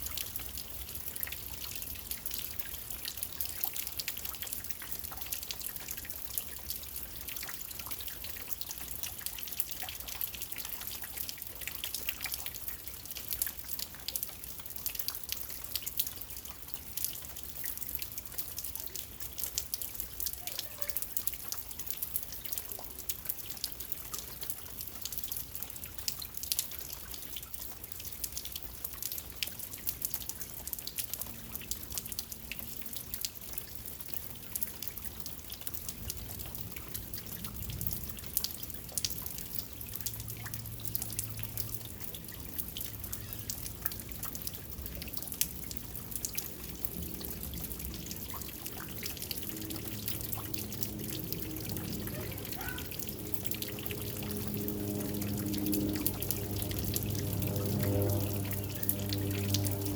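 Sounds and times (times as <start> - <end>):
rain falling with dripping: 0.0 - 59.9.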